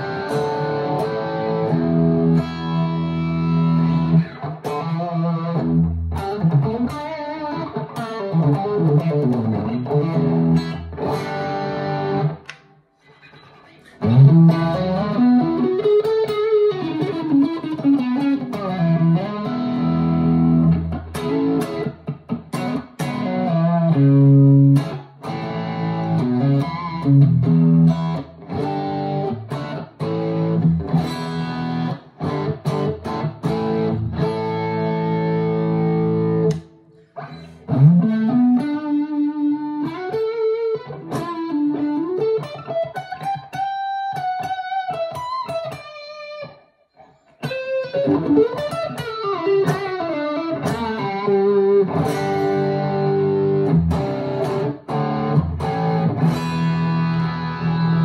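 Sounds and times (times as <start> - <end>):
electric guitar through amplifier: 0.0 - 58.0.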